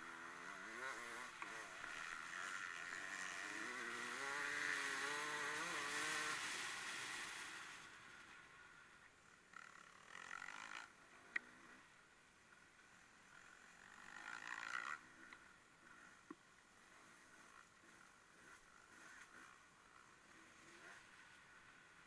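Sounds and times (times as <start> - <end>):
distant racing engines: 0.0 - 22.0.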